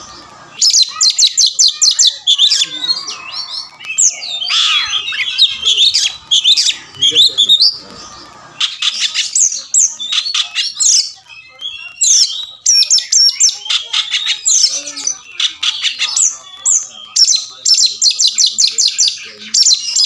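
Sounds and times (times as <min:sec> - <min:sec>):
bird singing whistles and chirps: 0:00.0 - 0:20.0.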